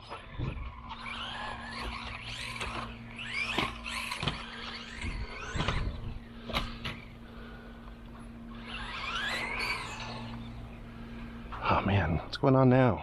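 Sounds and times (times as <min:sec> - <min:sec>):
toy car electric motor whining: 0:00.0 - 0:11.6.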